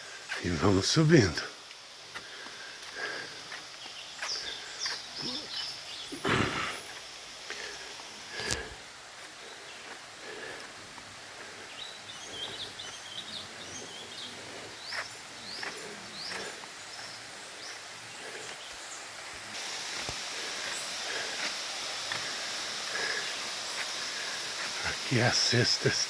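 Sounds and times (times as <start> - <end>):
small birds chirping: 0.0 - 26.0
steady high hiss: 0.0 - 26.0.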